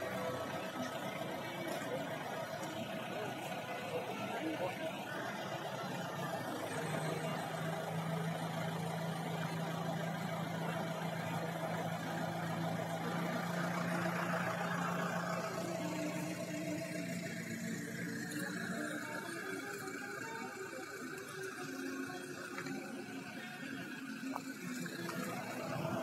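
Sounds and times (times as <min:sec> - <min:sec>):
heavy machinery engine humming: 0:00.0 - 0:26.0.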